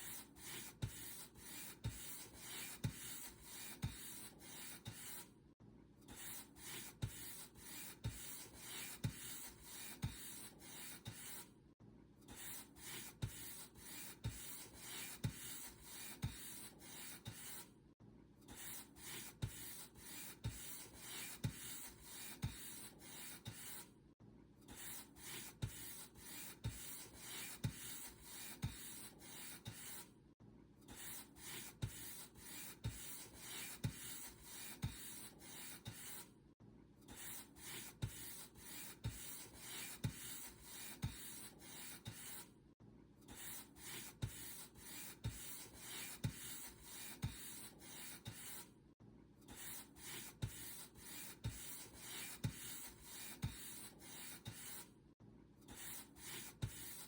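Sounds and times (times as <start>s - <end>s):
paintbrush stroking a surface: 0.0s - 5.3s, 6.2s - 11.5s, 12.4s - 17.7s, 18.6s - 23.9s, 24.8s - 30.0s, 31.0s - 36.3s, 37.2s - 42.5s, 43.4s - 48.7s, 49.6s - 54.9s, 55.7s - 57.0s.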